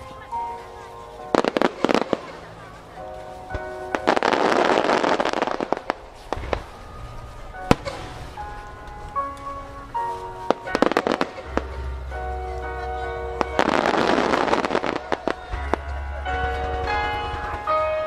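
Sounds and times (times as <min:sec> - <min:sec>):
fireworks bursting: 0:00.0 - 0:18.0
fireworks crackling: 0:00.0 - 0:18.0
music with sustained notes: 0:00.0 - 0:18.0.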